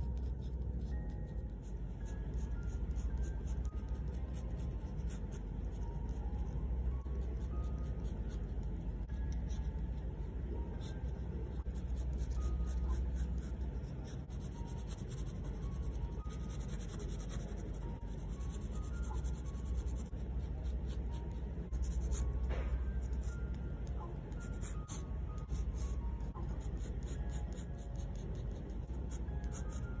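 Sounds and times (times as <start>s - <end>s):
pen nib scratching on paper: 0.0s - 6.5s, 7.1s - 30.0s.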